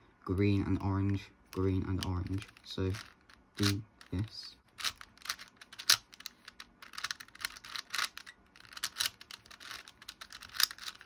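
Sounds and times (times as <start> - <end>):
plastic puzzle cube clicking: 1.5 - 11.0.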